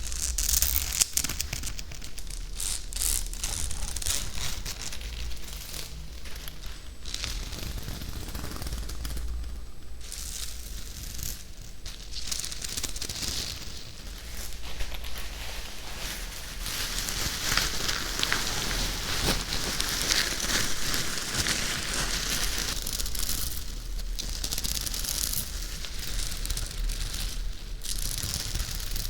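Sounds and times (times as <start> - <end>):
close scratching and crackling: 0.0 - 29.0.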